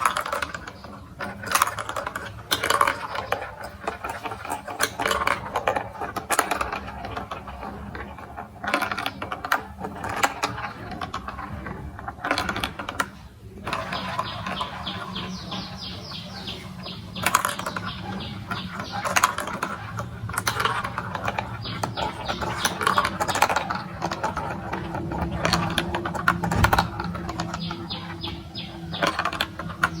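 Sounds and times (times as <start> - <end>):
marbles clicking through marble run: 0.0 - 30.0.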